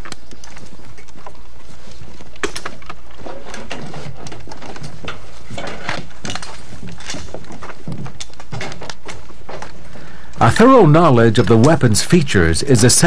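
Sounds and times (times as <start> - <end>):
gear clicks and rustling: 0.0 - 12.5.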